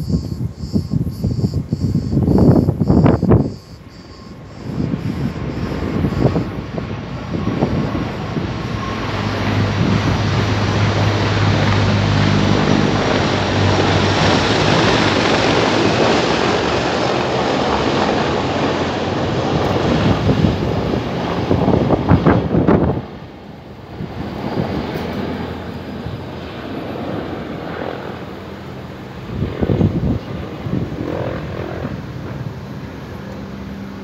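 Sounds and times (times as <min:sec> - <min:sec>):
wind buffeting microphone: 0:00.0 - 0:33.0
helicopter rotor and engine: 0:00.0 - 0:34.0.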